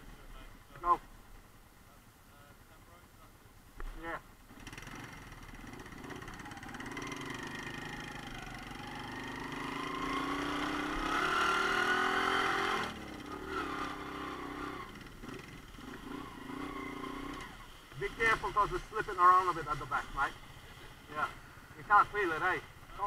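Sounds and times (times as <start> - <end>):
motorcycle engine accelerating: 4.0 - 23.0.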